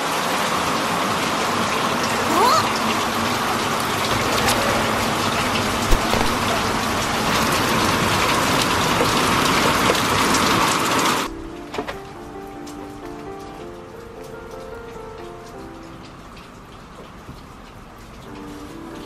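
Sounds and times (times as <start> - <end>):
heavy rain pattering: 0.0 - 19.0.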